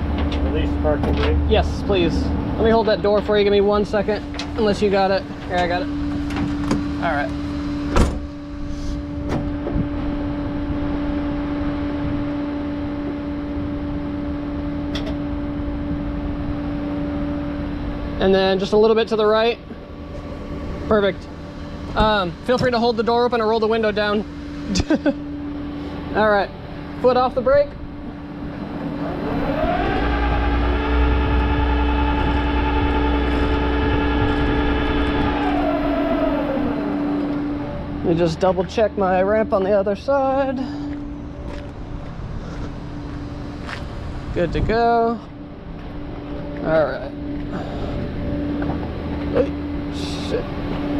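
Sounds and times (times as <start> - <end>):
vehicle engine droning: 0.0 - 50.9
winch whine: 0.0 - 50.9.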